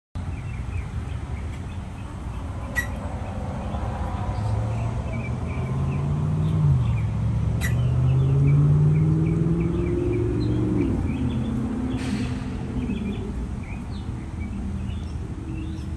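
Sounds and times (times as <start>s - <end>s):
birds chirping: 0.2s - 15.9s
low rumble of traffic: 0.2s - 15.9s
vehicle engine hum: 0.2s - 15.9s.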